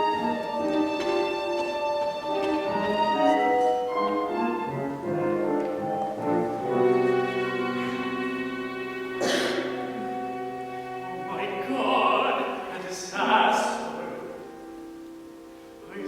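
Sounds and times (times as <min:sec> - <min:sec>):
orchestra with bowed strings: 0:00.0 - 0:16.0.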